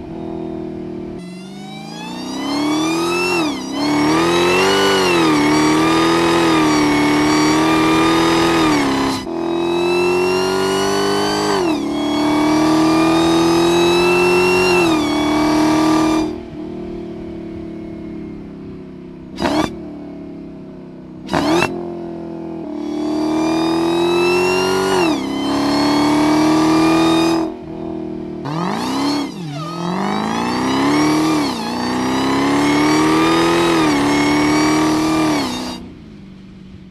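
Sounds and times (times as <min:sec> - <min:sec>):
car engine revving: 0:00.0 - 0:16.6, 0:19.1 - 0:19.9, 0:21.2 - 0:36.6.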